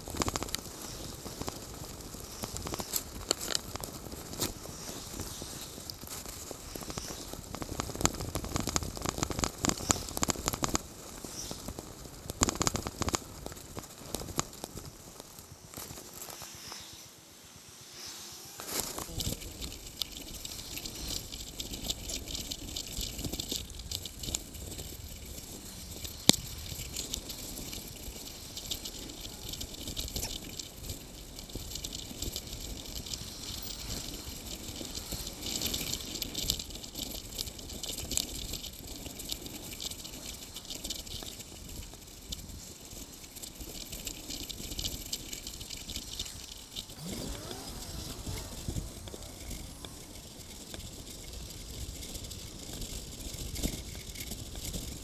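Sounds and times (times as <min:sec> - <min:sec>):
bicycle rattling on paved path: 0:00.0 - 0:55.0.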